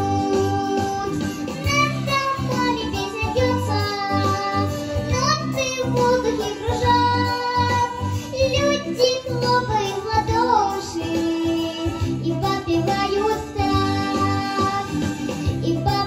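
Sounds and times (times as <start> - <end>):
girl singing into a microphone: 0.0 - 16.0
instrumental music with bass line: 0.0 - 16.0.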